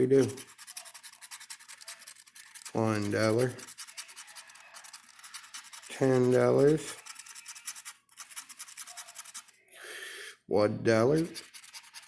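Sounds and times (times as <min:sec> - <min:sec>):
scratching lottery ticket: 0:00.0 - 0:09.7, 0:10.9 - 0:12.0
person speaking: 0:00.0 - 0:11.5.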